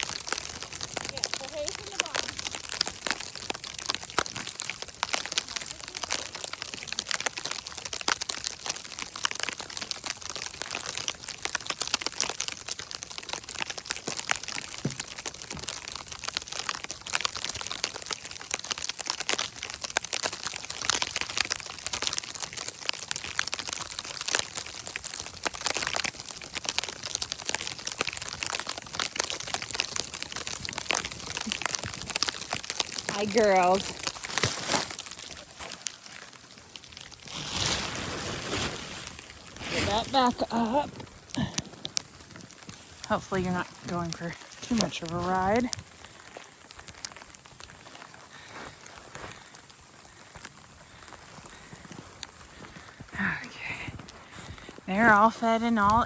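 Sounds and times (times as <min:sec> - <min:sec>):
sleet and rain pattering: 0:00.0 - 0:56.0.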